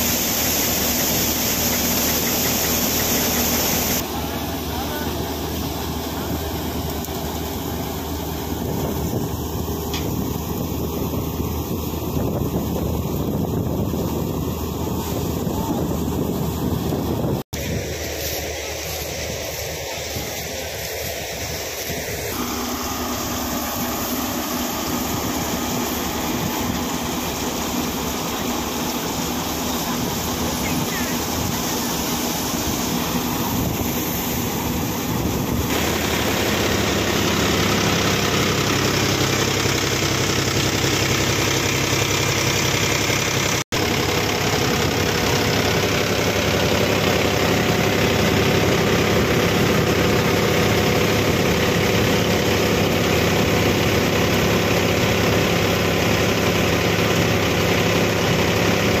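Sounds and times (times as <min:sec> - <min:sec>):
thresher drum noise: 0:00.0 - 0:59.0
tractor diesel engine running: 0:00.0 - 0:59.0.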